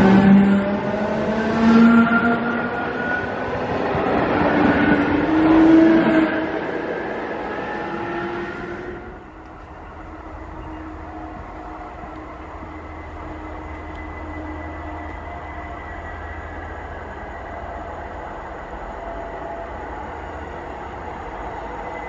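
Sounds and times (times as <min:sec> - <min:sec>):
train traction motors whining: 0:00.0 - 0:22.0.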